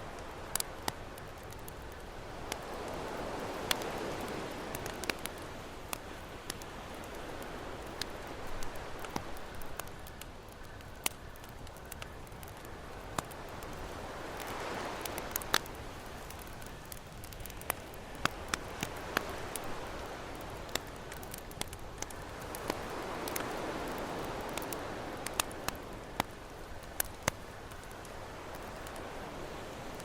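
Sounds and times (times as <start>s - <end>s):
campfire crackling and popping: 0.0s - 30.0s
ocean waves: 0.0s - 30.0s.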